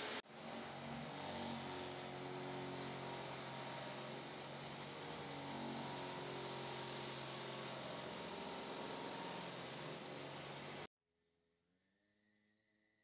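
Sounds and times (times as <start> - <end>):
bench grinder motor hum: 0.0 - 10.9
metal hissing on grinding wheel: 0.0 - 10.9.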